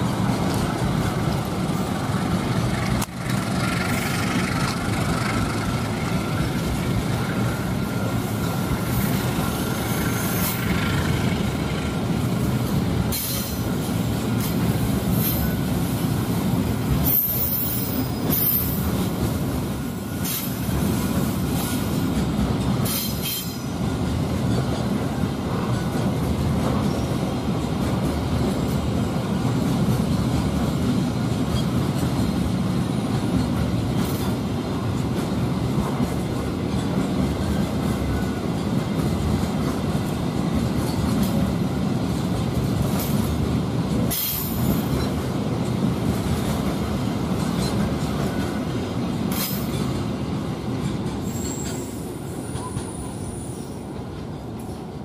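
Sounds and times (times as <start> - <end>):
wheels clacking over rail joints: 0.0 - 15.7, 21.5 - 53.1
train wheels rumbling on rails: 0.0 - 55.0.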